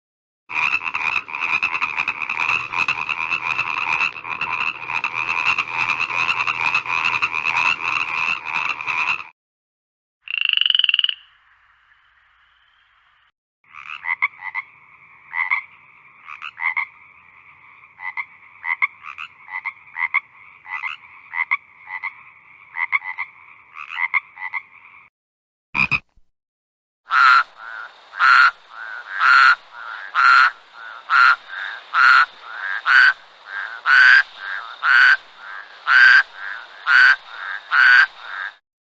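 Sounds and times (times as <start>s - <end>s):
frogs croaking: 0.5s - 9.3s, 10.2s - 25.1s, 27.1s - 38.6s.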